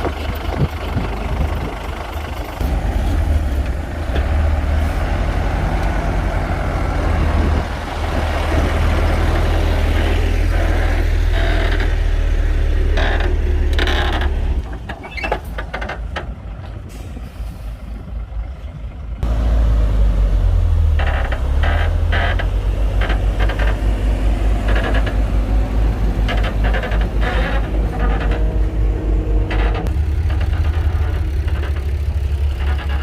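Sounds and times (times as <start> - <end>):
bulldozer diesel engine rumbling: 0.0 - 33.0.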